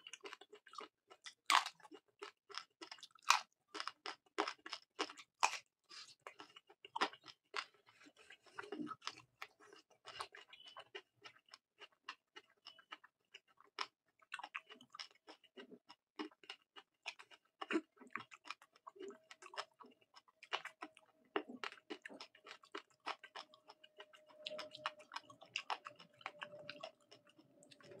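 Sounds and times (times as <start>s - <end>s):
man chewing and mouth clicks: 0.0s - 28.0s.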